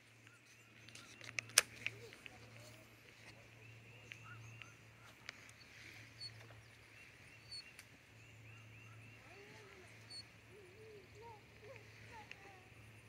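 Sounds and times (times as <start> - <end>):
low steady hum: 0.0 - 13.0
high chirping calls: 0.1 - 13.0.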